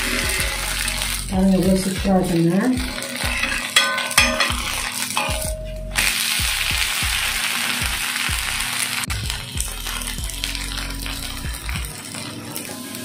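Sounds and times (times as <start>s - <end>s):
background music with low beat: 0.0s - 13.0s
batter sizzling on a griddle: 0.0s - 13.0s.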